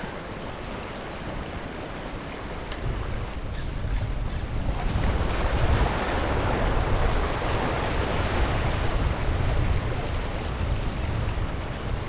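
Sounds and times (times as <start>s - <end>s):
waves: 0.0s - 12.0s
wind buffeting microphone: 0.0s - 12.0s.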